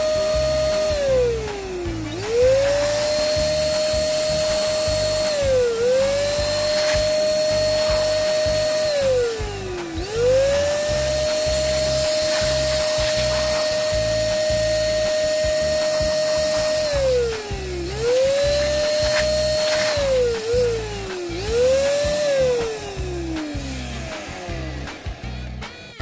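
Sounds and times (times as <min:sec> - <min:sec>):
toy electric motor whining: 0:00.0 - 0:26.0.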